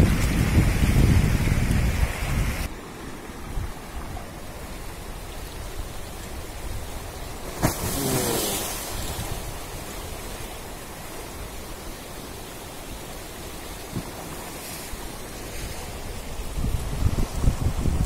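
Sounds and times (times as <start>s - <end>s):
wind rumbling on microphone: 0.0s - 11.7s, 13.7s - 18.0s
floodwater rushing: 0.0s - 18.0s.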